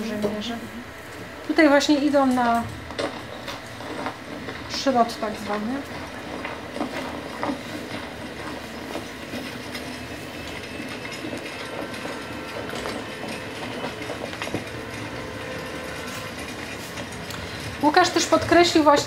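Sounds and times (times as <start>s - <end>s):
steady background noise: 0.0s - 19.0s
faint clicks and knocks: 2.1s - 19.0s.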